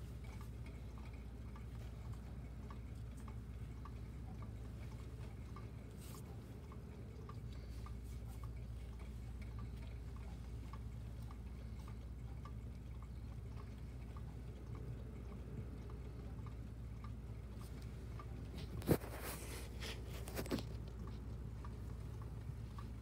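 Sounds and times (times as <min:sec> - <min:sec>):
faint regular tick: 0:00.0 - 0:23.0
steady low hum: 0:00.0 - 0:23.0.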